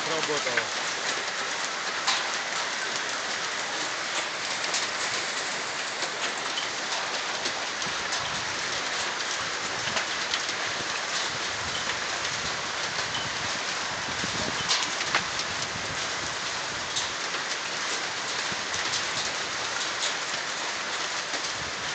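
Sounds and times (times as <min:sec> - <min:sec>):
hail downpour hissing: 0:00.0 - 0:21.9
hailstones clicking: 0:00.0 - 0:21.9.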